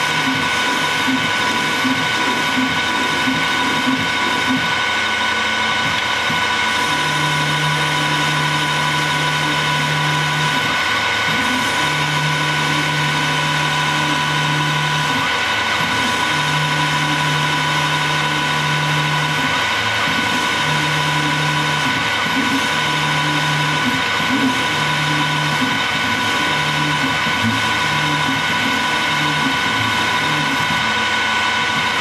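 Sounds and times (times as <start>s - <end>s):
lathe whining: 0.0s - 32.0s.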